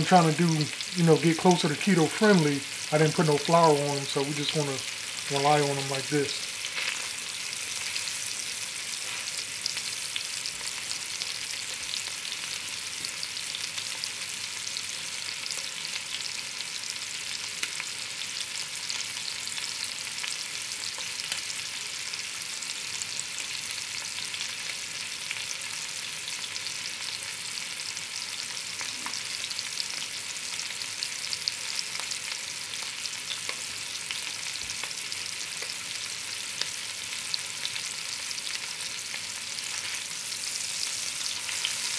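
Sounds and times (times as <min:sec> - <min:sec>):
meat sizzling in hot fat: 0:00.0 - 0:41.9.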